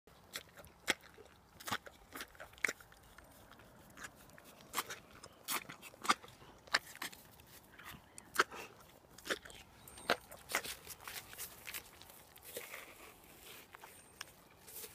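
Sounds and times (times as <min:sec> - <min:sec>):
pony crunching apple: 0:00.1 - 0:14.9.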